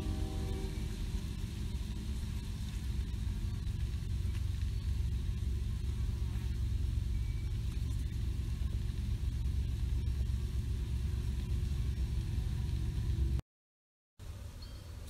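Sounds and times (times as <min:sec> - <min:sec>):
faint high hiss: 0:00.0 - 0:13.4
steady low rumble: 0:00.0 - 0:13.4.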